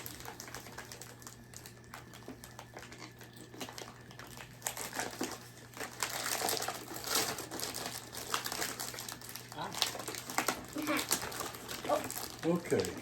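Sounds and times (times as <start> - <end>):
snack packaging crinkling: 0.0 - 13.0.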